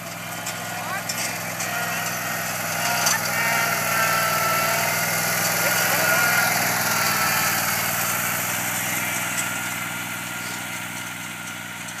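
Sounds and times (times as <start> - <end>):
riding mower engine running: 0.0 - 12.0.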